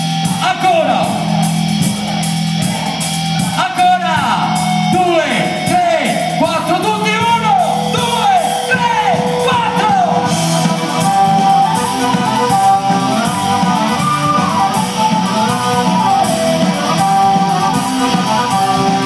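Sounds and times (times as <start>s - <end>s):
crowd singing and shouting: 0.0s - 19.0s
live band playing: 0.0s - 19.0s.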